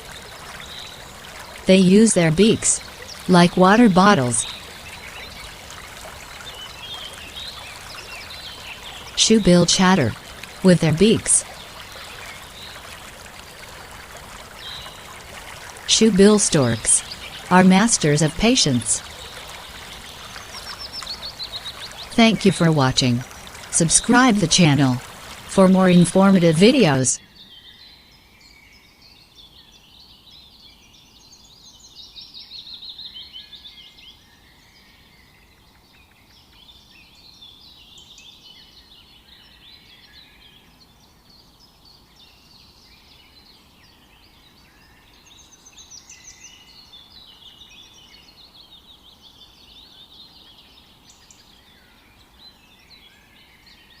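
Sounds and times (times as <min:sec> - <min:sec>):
outdoor background hiss: 0:00.0 - 0:54.0
small birds chirping: 0:00.0 - 0:54.0.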